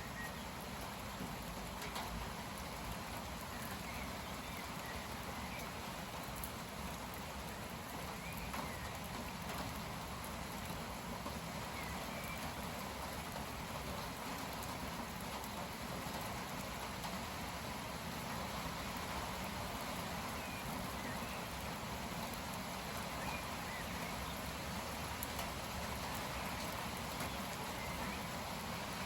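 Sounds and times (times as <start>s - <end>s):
heavy rain falling in wind: 0.0s - 29.0s.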